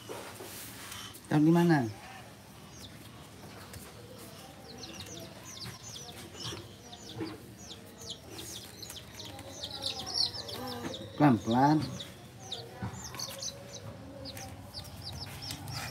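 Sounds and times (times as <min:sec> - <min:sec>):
baby chicks peeping: 0:01.3 - 0:15.9.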